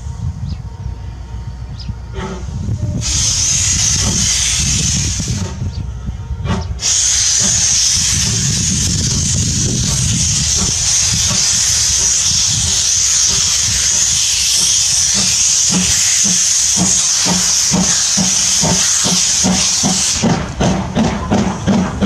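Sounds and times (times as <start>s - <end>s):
steam locomotive exhaust chuffs: 1.8s - 22.0s
steam hissing: 2.2s - 5.7s, 6.6s - 22.0s.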